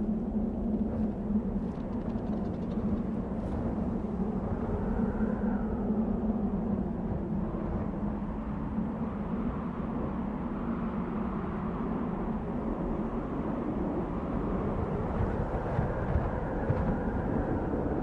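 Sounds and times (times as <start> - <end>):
wind blowing with low moan: 0.0 - 18.0.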